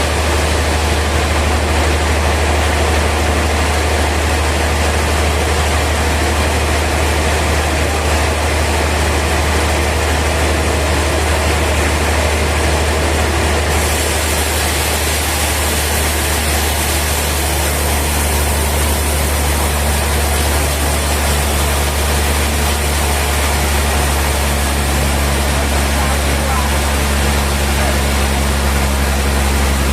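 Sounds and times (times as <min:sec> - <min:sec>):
sawmill machinery droning: 0:00.0 - 0:29.9.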